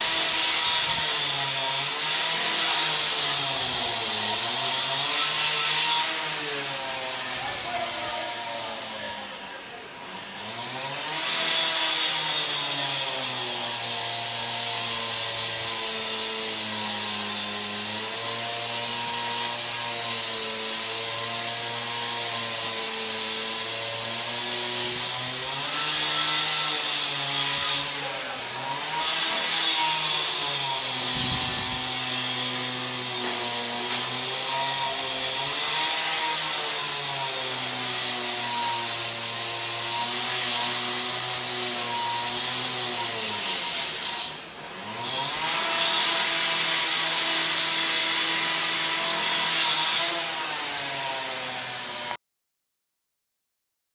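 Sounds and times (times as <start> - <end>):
small power tool engine running: 0.0 - 52.2.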